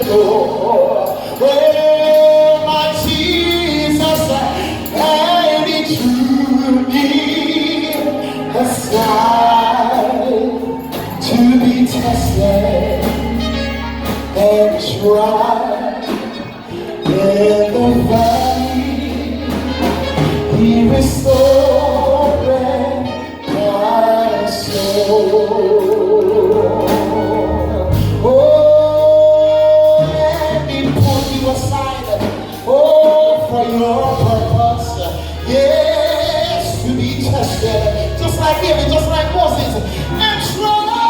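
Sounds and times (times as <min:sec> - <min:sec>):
band accompaniment with bass line: 0:00.0 - 0:41.0
gospel singing voices: 0:00.0 - 0:41.0.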